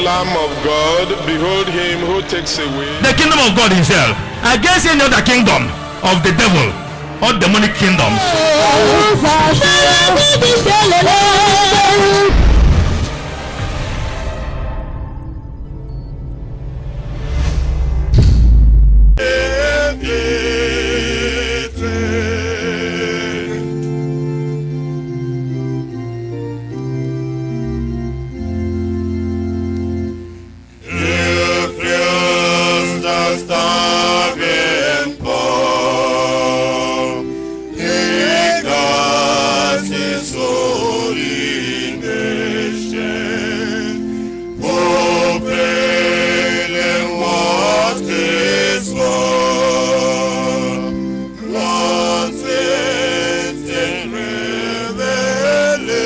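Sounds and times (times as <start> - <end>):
electronic organ chords: 0.0 - 14.1, 18.6 - 56.0
voices singing a hymn: 0.0 - 14.2, 19.2 - 26.5, 29.6 - 56.0.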